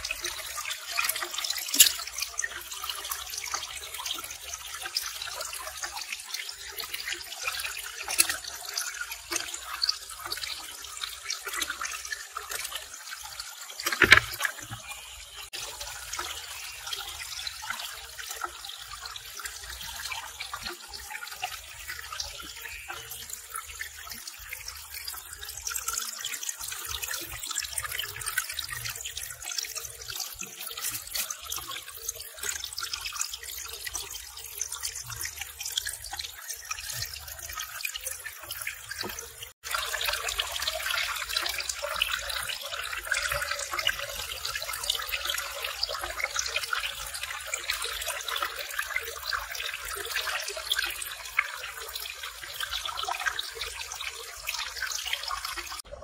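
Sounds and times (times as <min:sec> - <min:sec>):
small waterfall splashing into pond: 0:00.0 - 0:56.0.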